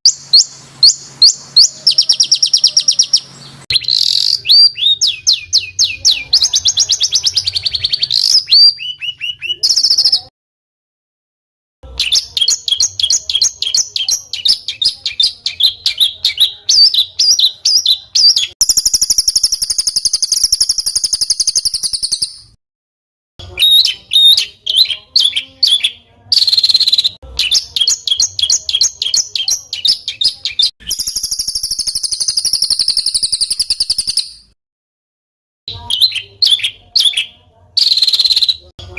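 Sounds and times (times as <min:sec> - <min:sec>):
long buzzy bird trill: 0:00.0 - 0:10.3, 0:11.8 - 0:22.6, 0:23.4 - 0:34.6, 0:35.7 - 0:38.9.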